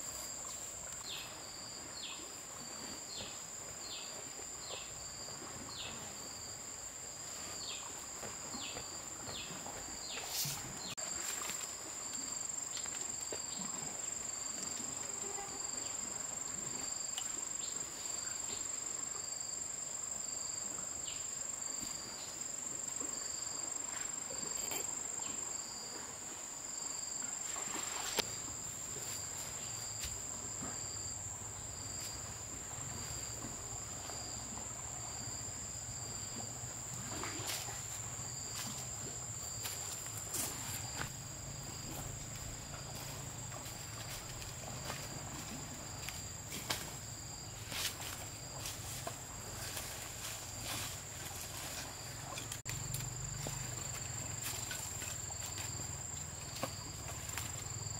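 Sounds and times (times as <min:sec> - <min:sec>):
insect chirping: 0:00.0 - 0:57.9.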